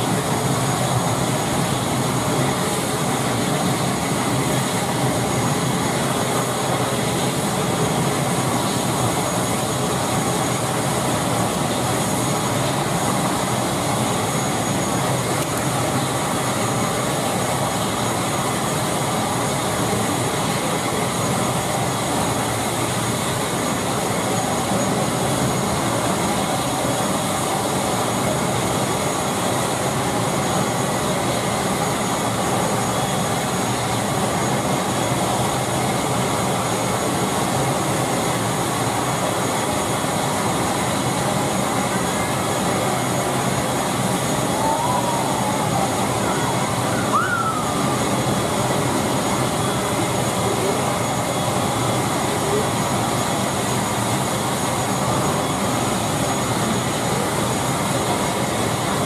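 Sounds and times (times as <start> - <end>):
turboprop engine running: 0.0 - 59.0.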